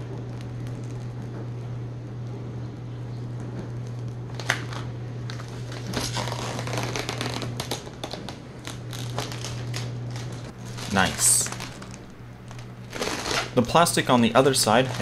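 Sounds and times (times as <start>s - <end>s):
steady low hum: 0.0s - 15.0s
plastic film peeling and crackling: 0.1s - 1.3s, 3.7s - 15.0s.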